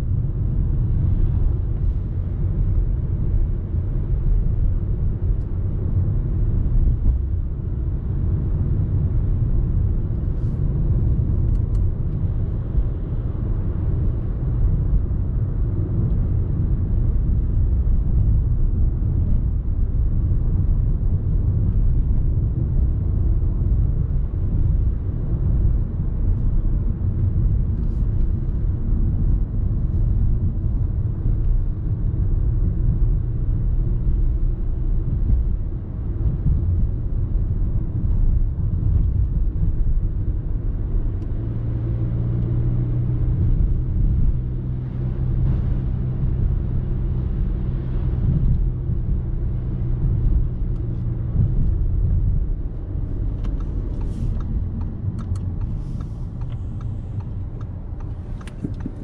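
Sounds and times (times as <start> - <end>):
diesel car engine running: 0.0 - 59.0
road and tyre rumble: 0.0 - 59.0.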